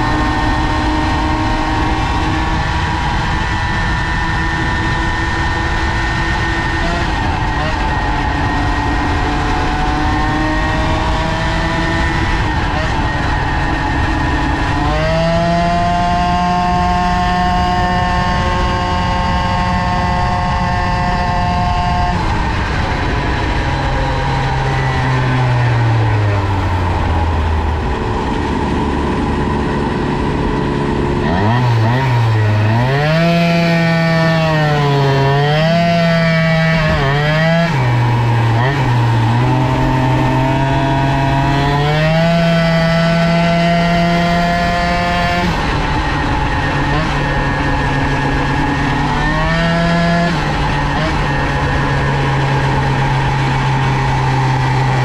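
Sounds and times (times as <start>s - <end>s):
two-stroke moped engine revving: 0.0s - 55.0s.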